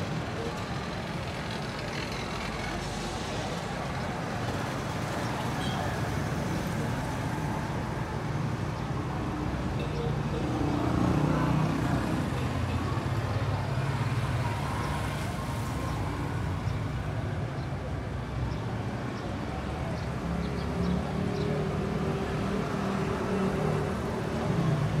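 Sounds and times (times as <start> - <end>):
traffic engine hum and road noise: 0.0 - 25.0.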